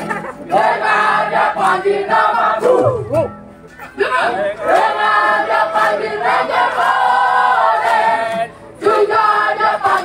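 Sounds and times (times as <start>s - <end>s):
group singing cheer song: 0.5s - 3.1s, 4.2s - 10.0s.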